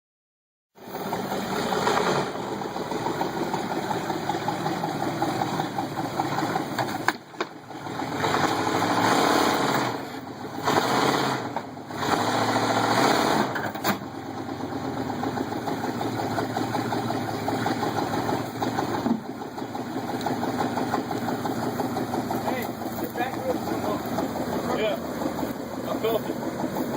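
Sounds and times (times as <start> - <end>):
truck engine revving: 0.8 - 26.9.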